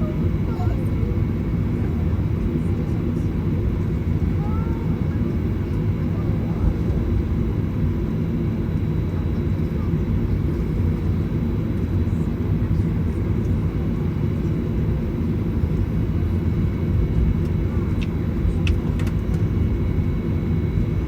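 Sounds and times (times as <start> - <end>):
aircraft cabin rumble: 0.0 - 21.0.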